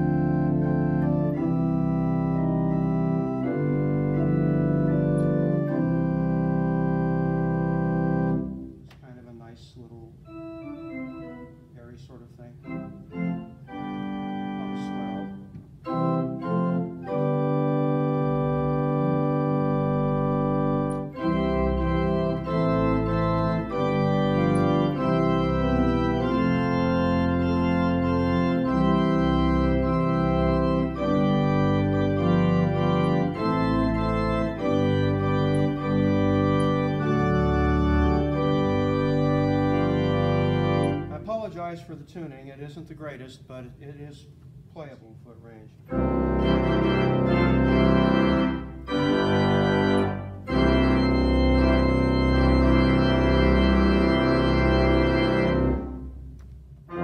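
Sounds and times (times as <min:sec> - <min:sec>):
deep organ pedal bass notes: 0:00.0 - 0:42.0, 0:45.8 - 0:57.0
pipe organ chords: 0:00.0 - 0:42.1, 0:45.8 - 0:57.0.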